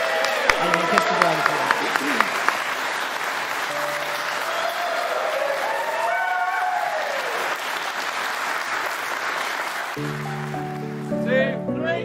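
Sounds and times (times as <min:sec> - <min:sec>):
congregation applauding: 0:00.0 - 0:11.4.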